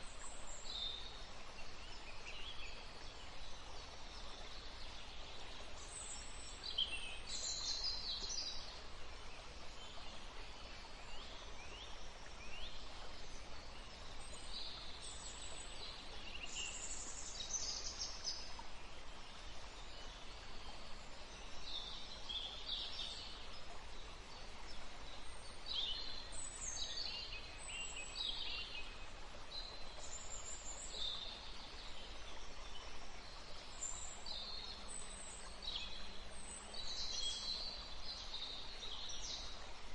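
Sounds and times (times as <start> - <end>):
low background hiss: 0.0 - 39.9
small songbirds chirping and trilling: 0.0 - 39.9.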